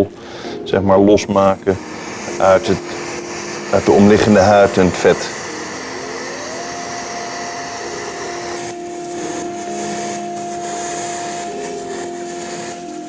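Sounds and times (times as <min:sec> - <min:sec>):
suction hissing: 0:01.3 - 0:13.0
electronic tones: 0:01.6 - 0:13.0.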